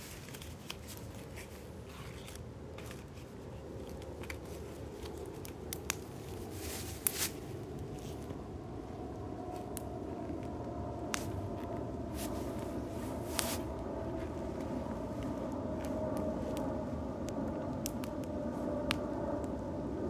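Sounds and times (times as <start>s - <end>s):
steady low hiss of fire: 0.0s - 20.0s
fire crackling with pops: 3.6s - 20.0s.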